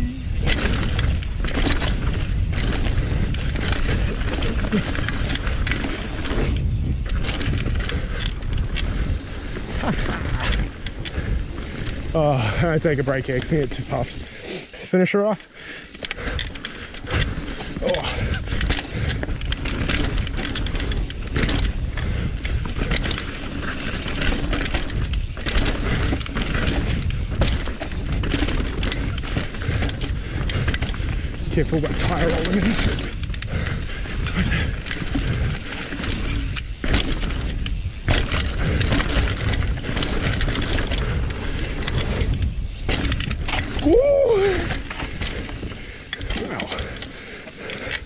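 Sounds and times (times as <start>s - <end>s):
bike clicks and knocks: 0.0s - 14.7s, 15.4s - 48.0s
bike tyres rolling over dirt: 0.0s - 48.0s.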